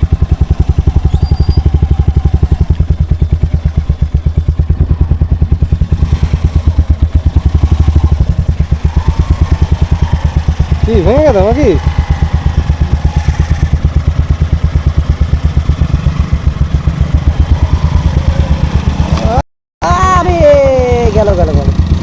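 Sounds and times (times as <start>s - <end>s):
motorcycle engine thumping: 0.0s - 19.4s.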